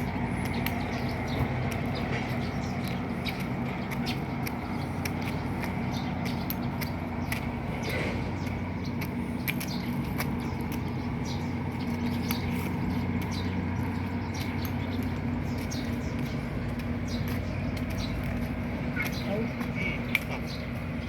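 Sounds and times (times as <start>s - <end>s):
birds chirping: 0.0s - 21.0s
low engine hum: 0.0s - 21.0s.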